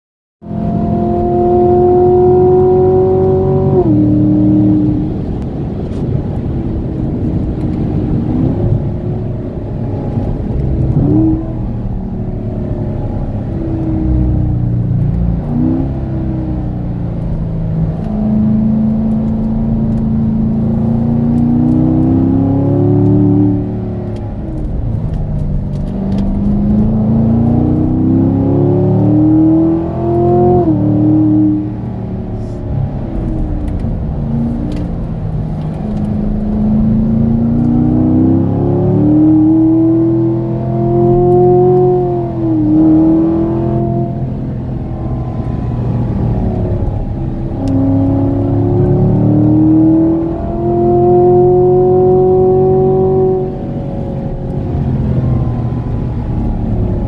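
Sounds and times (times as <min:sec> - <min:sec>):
car engine accelerating hard: 0:00.4 - 0:57.0
road and wind noise: 0:00.4 - 0:57.0.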